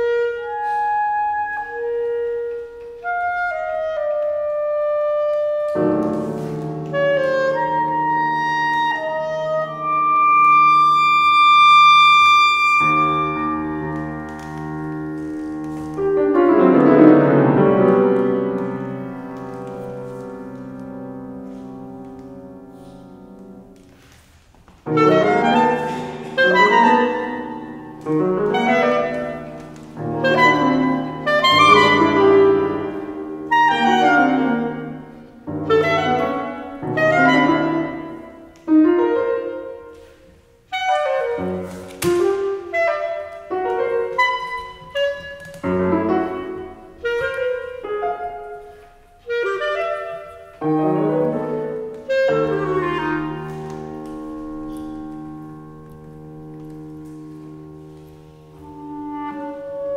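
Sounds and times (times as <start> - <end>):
clarinet: 0.0 - 59.9
piano chords: 0.0 - 59.9.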